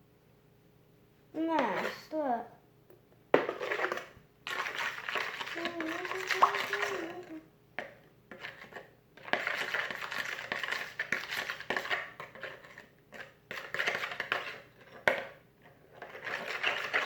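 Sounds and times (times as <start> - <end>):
slime being mixed: 1.4 - 2.3, 3.4 - 17.0.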